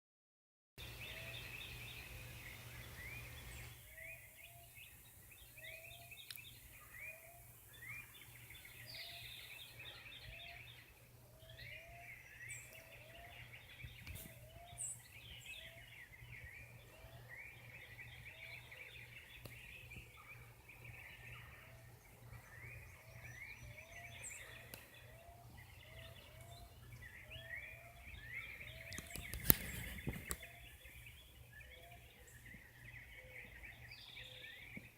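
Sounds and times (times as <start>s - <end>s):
birds chirping: 0.8s - 34.9s.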